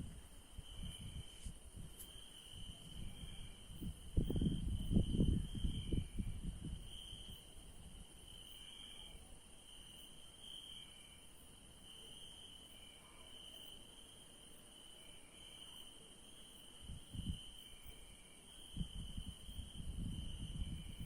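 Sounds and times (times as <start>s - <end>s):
crickets chirping: 0.0s - 21.0s
high insect chorus: 0.0s - 21.0s.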